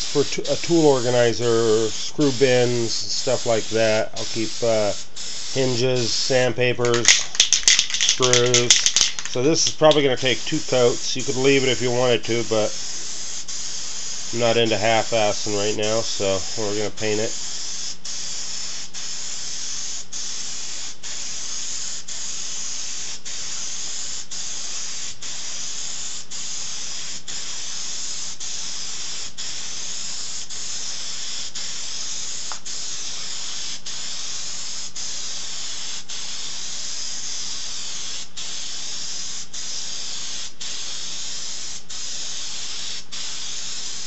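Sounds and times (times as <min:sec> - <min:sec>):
aerosol can spraying: 0:00.0 - 0:44.0.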